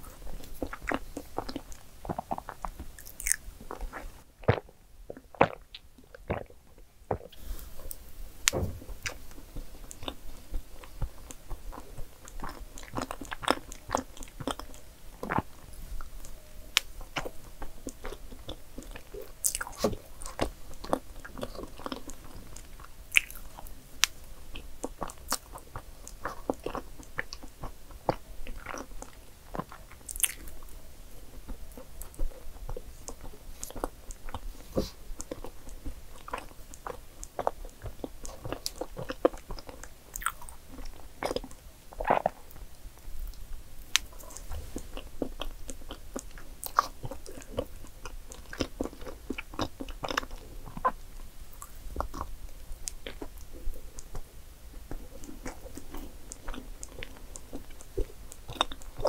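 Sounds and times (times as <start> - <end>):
chewing soft cake: 0.0 - 59.0.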